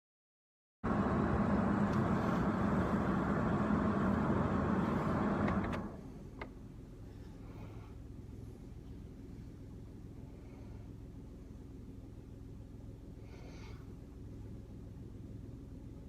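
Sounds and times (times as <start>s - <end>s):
vehicle engine humming: 0.8s - 16.0s.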